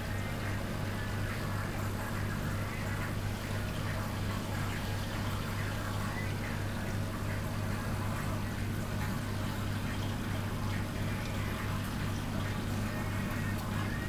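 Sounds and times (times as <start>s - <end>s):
aquarium pump humming: 0.0s - 14.0s
water splashing in tank: 0.0s - 14.0s.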